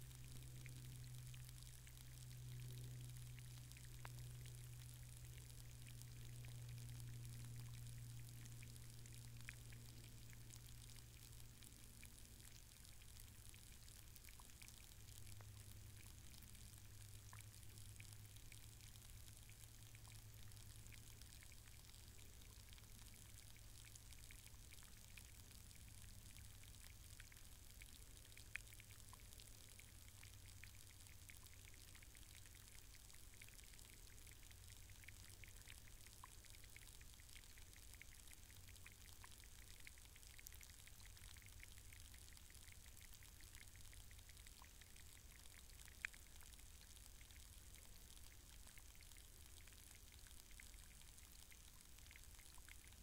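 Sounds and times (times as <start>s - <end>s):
faint underwater hiss: 0.0s - 53.0s
small sharp underwater clicks: 0.0s - 53.0s.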